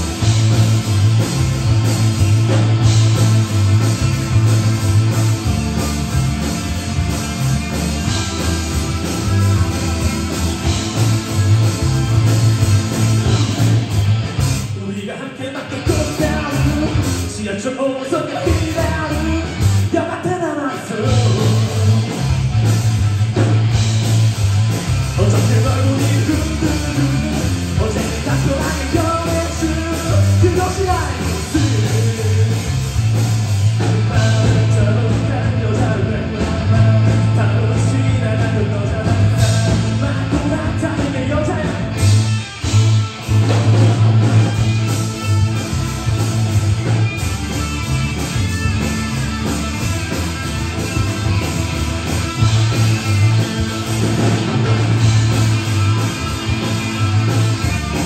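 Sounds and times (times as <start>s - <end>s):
bass guitar: 0.0s - 58.0s
drums: 0.0s - 58.0s
electric guitar: 0.0s - 58.0s.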